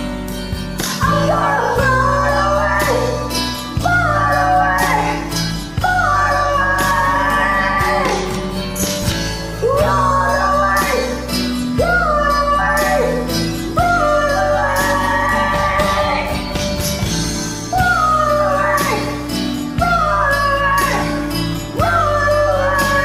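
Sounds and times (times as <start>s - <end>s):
acoustic rock ballad backing track: 0.0s - 23.0s
person singing wordless notes: 0.8s - 8.8s, 9.5s - 16.6s, 17.6s - 23.0s.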